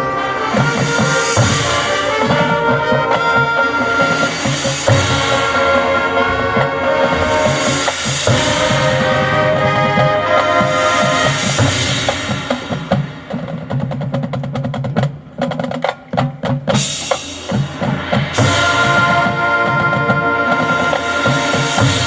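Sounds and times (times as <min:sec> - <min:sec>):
marching band brass chords: 0:00.0 - 0:22.0
snare and bass drum strokes: 0:00.0 - 0:22.0.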